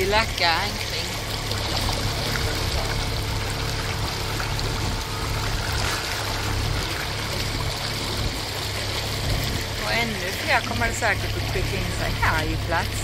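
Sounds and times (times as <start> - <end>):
low engine hum: 0.0 - 13.0
water splashing along boat hull: 0.0 - 13.0.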